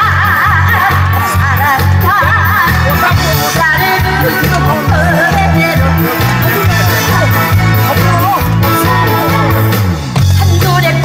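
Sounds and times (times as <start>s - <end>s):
backing track with bass beat: 0.0s - 11.0s
woman singing with vibrato: 0.0s - 11.0s.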